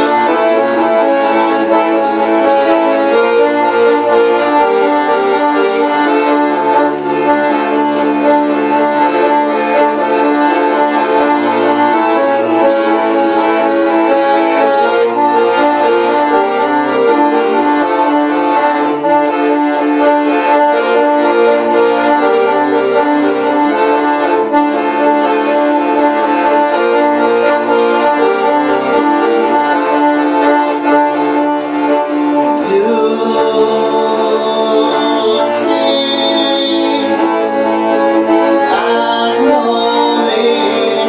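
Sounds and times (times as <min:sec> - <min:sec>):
bowed cello: 0:00.0 - 0:41.0
piano accordion: 0:00.0 - 0:41.0.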